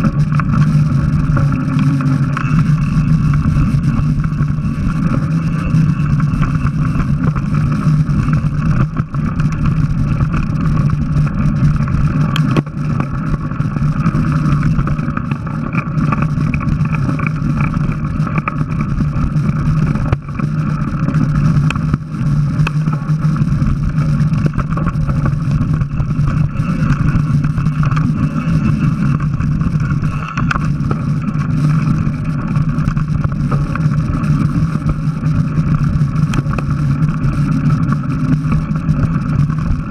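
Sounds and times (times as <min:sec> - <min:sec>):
bike tyres rumbling on dirt: 0:00.0 - 0:39.9
wind: 0:00.0 - 0:39.9.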